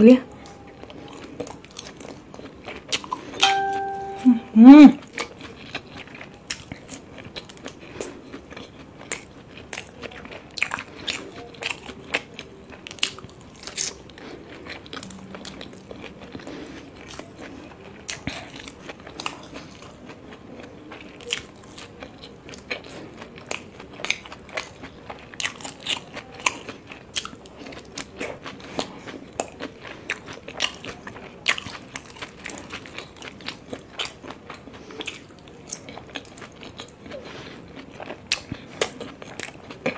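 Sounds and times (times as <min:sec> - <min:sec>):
chewing and biting: 0:00.3 - 0:03.4, 0:05.0 - 0:39.9.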